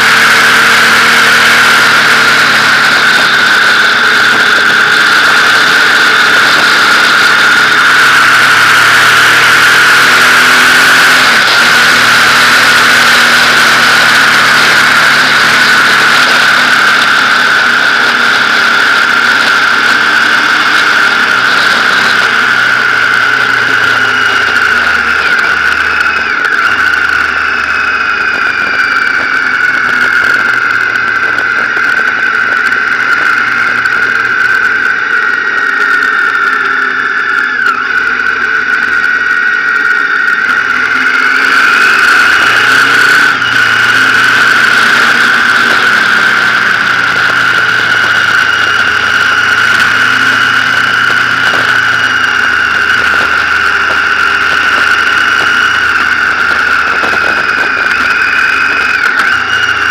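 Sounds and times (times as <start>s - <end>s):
loud wind noise: 0.0s - 59.9s
motorcycle engine running: 0.0s - 59.9s
steady high whistle: 0.0s - 59.9s.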